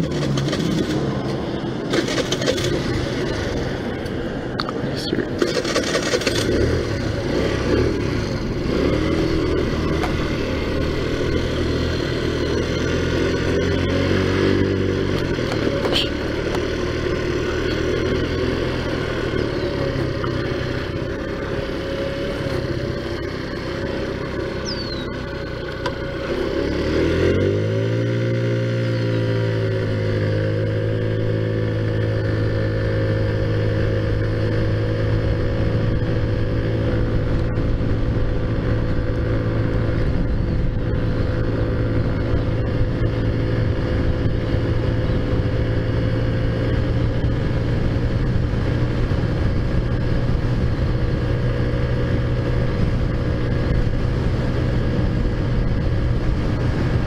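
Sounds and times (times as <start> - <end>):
constant rushing noise: 0.0 - 57.0
scooter engine revving: 0.0 - 57.0.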